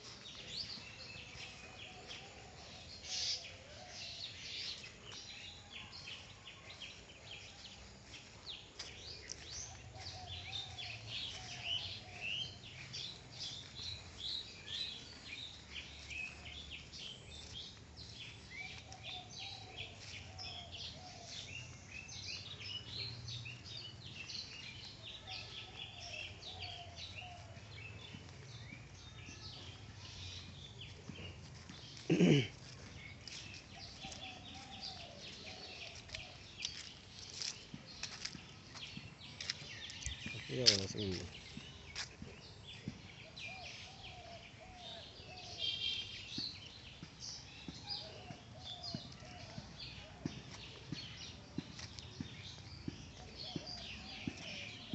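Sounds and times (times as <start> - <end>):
birds chirping and twittering: 0.0 - 54.9.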